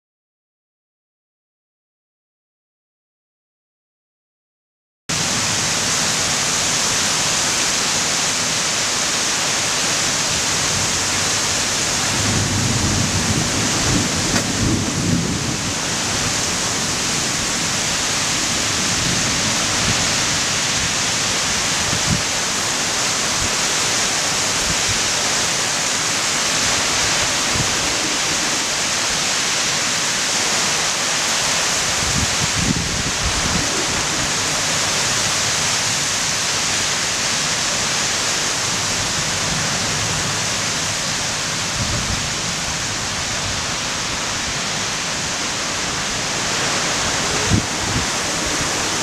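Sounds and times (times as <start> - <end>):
heavy wind-driven rain: 5.1 - 49.0.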